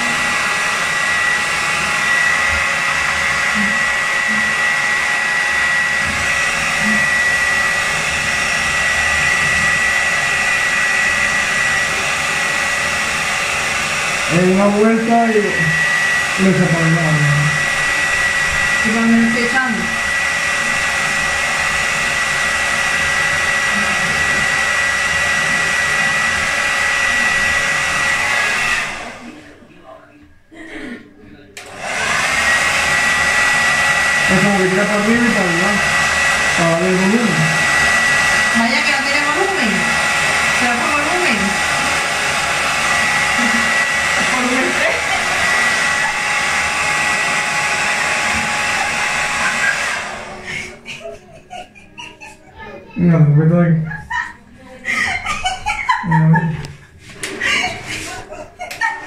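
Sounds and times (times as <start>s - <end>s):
hair dryer blowing: 0.0s - 29.6s, 31.6s - 59.0s.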